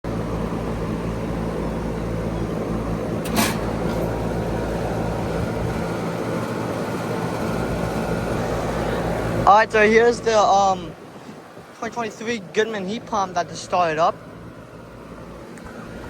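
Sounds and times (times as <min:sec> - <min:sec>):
compressor hum: 0:00.0 - 0:16.0
condenser fan rushing: 0:00.0 - 0:16.0.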